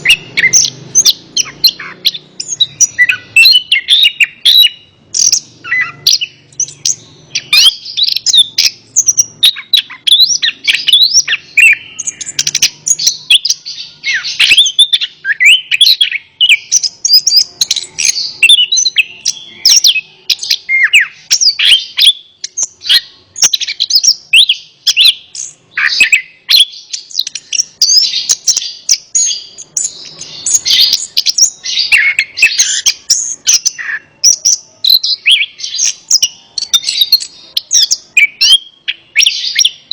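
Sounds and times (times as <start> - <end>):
thrush singing: 0.0 - 39.9.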